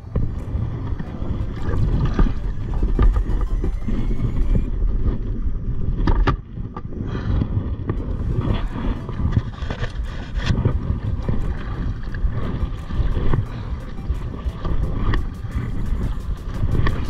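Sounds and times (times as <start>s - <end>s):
water against kayak hull: 0.0s - 17.0s
wind on microphone: 0.0s - 17.0s.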